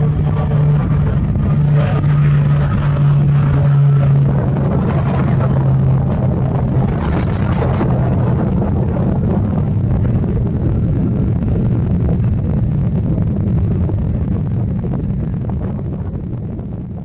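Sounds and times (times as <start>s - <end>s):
turboprop engines at takeoff: 0.0s - 17.0s.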